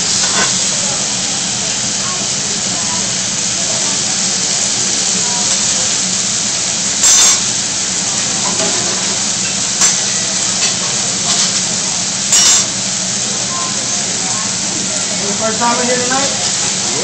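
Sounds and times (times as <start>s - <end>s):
food sizzling on a griddle: 0.0s - 17.0s.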